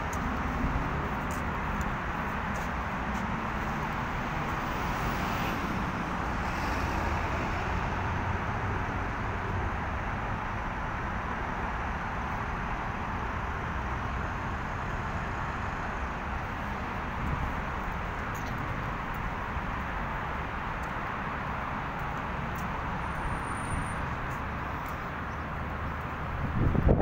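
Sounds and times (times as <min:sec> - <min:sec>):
busy road traffic hum: 0:00.0 - 0:27.0.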